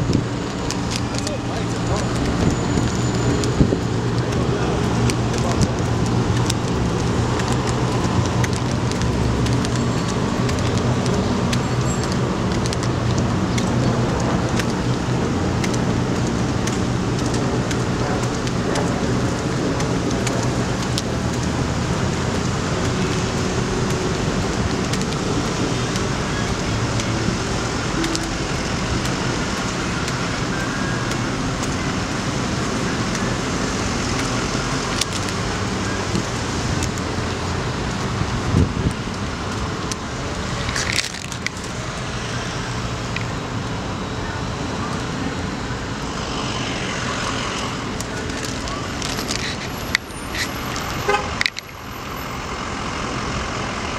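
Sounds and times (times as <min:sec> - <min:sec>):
city traffic noise: 0:00.0 - 0:53.9.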